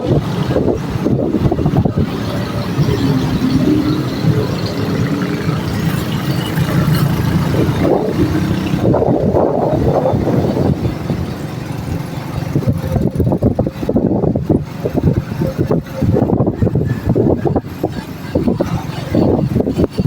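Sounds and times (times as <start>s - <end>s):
road traffic rumble: 0.0s - 20.0s
wind buffeting microphone: 0.0s - 20.0s.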